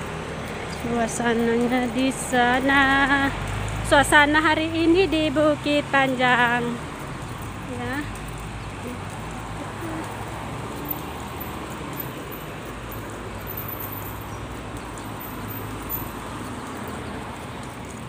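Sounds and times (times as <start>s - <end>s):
cars passing: 0.0s - 18.0s
low hum of engines: 0.0s - 18.0s.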